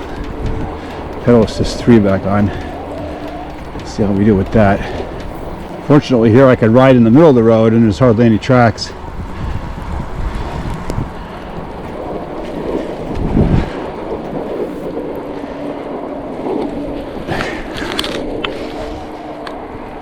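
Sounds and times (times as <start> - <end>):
electric motor whine: 0.0 - 17.1
tyres rolling over snow: 0.0 - 20.0
wind buffeting microphone: 0.0 - 20.0.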